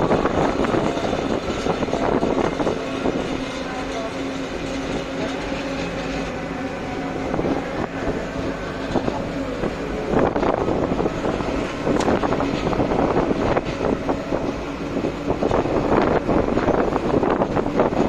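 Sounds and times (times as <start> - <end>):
truck engine and road hum: 0.0 - 18.0.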